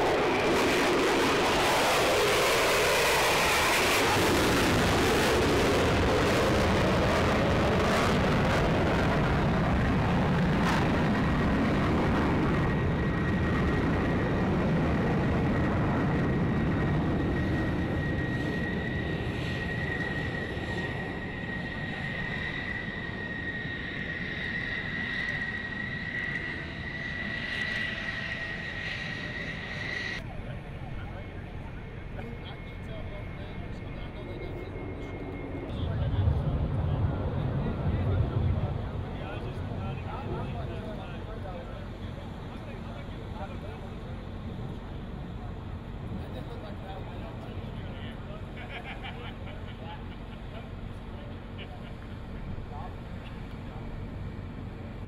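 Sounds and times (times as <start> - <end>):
jet engine flying past: 0.0 - 55.0
steady high whine: 0.0 - 55.0.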